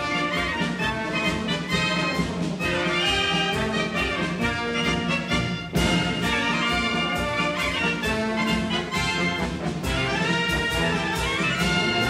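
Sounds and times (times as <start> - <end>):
brass band music: 0.0 - 12.0.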